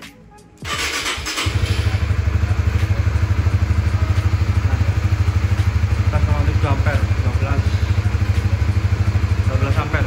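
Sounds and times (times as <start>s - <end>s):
motorcycle engine idling: 0.6s - 10.0s.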